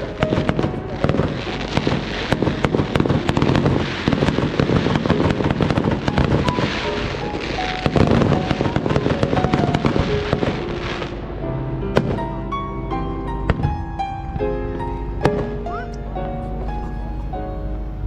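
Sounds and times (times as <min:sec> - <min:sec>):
fireworks bangs and crackling: 0:00.0 - 0:12.5, 0:13.2 - 0:14.5, 0:15.2 - 0:17.0
music playing: 0:00.0 - 0:18.0.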